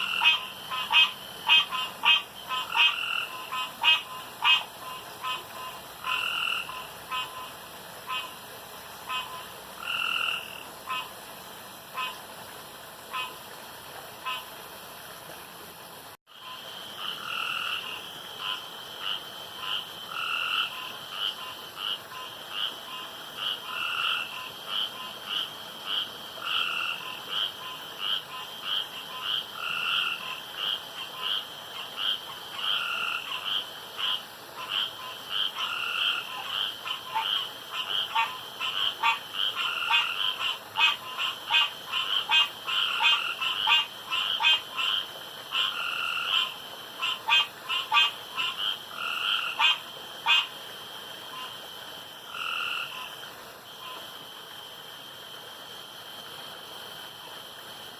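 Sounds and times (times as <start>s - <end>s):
high trilling frog chorus: 0.0s - 8.4s, 9.1s - 11.1s, 16.4s - 50.6s, 52.2s - 54.1s
sharp clicking frog calls: 0.0s - 8.4s, 9.1s - 11.2s, 16.4s - 55.3s
frog croaking call: 0.0s - 11.3s, 11.9s - 12.4s, 13.0s - 14.6s, 16.3s - 55.9s.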